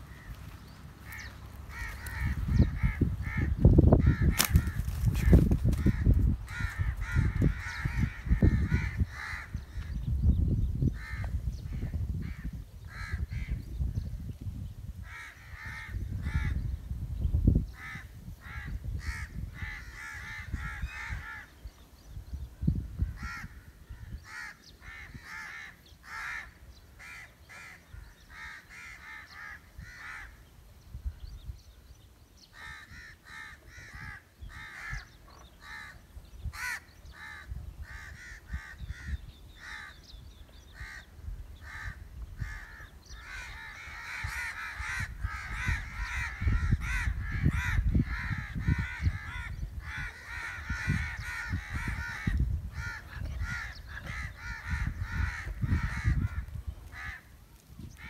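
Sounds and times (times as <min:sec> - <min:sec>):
wind buffeting microphone: 0:00.0 - 0:58.0
crows cawing: 0:00.1 - 0:09.9, 0:11.0 - 0:13.6, 0:15.0 - 0:16.7, 0:17.8 - 0:21.6, 0:23.0 - 0:30.4, 0:32.5 - 0:40.1, 0:40.7 - 0:57.4.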